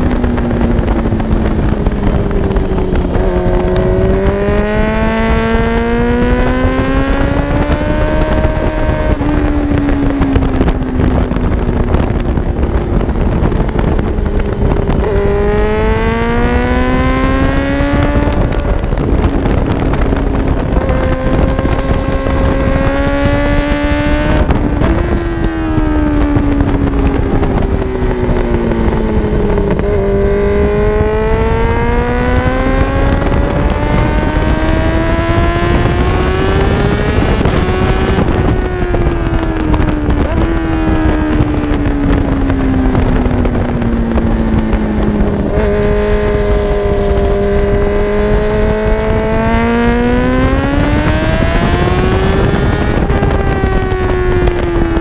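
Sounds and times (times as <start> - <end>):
motorcycle engine at full throttle: 0.0 - 55.0
wind rush: 0.0 - 55.0.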